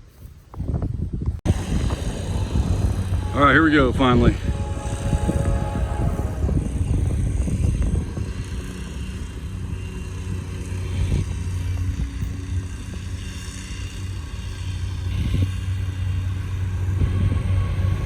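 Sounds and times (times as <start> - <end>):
low diesel locomotive drone: 1.1 - 18.0
freight train passing fast: 1.5 - 18.0.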